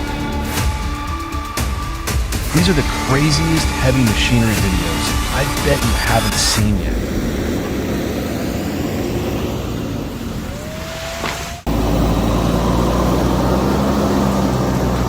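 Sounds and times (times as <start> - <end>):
heavy equipment engine under load: 0.0 - 15.0
rising whine: 0.0 - 15.0.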